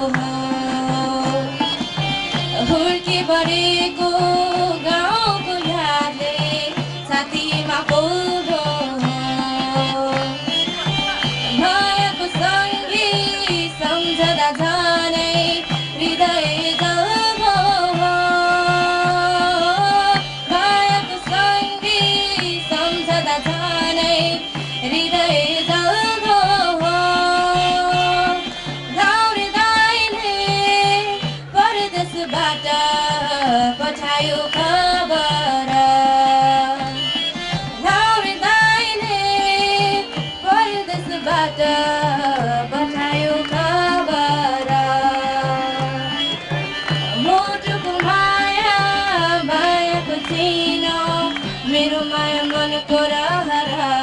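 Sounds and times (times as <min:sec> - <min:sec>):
hand drum beat: 0:00.0 - 0:54.0
harmonium: 0:00.0 - 0:54.0
woman singing into microphone: 0:00.0 - 0:54.0.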